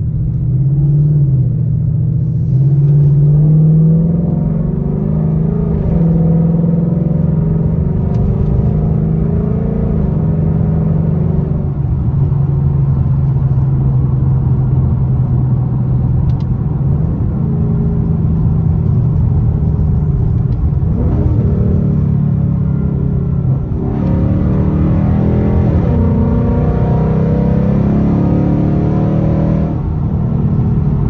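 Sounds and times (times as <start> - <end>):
car engine rumble from cabin: 0.0 - 31.0.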